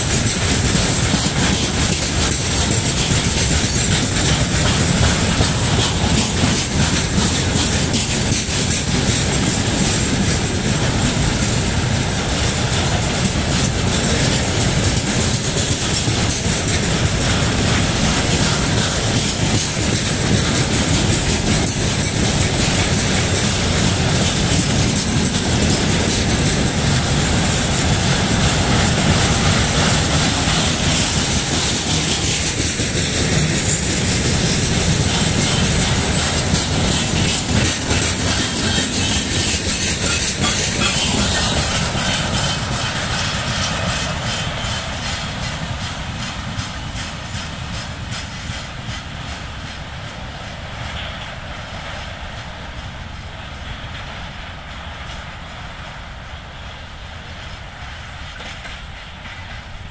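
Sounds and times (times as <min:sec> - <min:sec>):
train wheels rumbling on rails: 0:00.0 - 0:59.9
wheels clacking over rail joints: 0:00.0 - 0:59.9.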